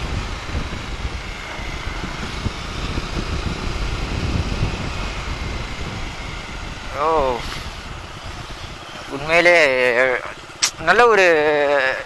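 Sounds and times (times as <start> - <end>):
wind on microphone: 0.0 - 11.1
motorcycle engine running: 0.0 - 12.0.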